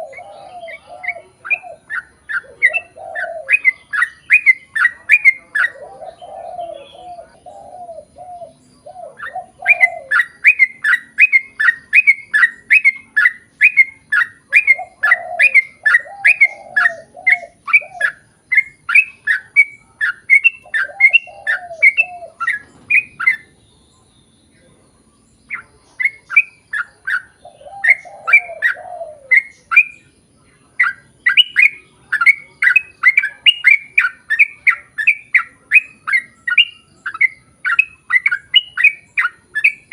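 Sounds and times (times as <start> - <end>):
bird repeated chirping notes: 0.0 - 39.9
bird warbled phrases: 0.0 - 39.9.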